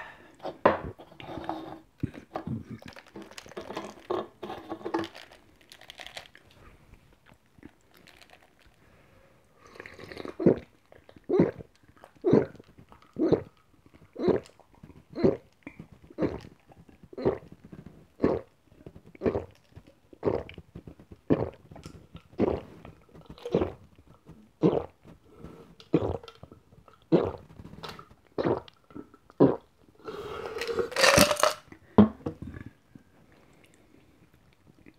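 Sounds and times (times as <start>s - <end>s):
person gulping soda: 2.0s - 8.8s, 9.6s - 33.9s.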